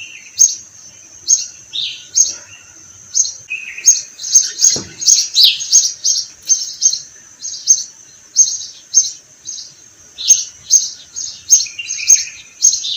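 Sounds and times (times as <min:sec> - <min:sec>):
sparrows chirping: 0:00.0 - 0:12.9.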